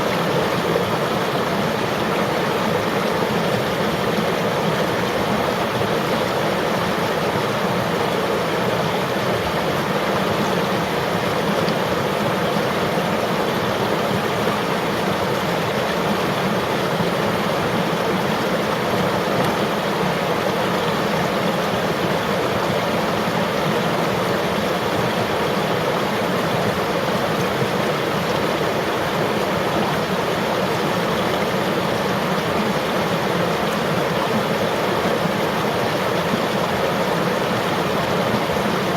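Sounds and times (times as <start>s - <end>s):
river flowing over rocks: 0.0s - 38.9s.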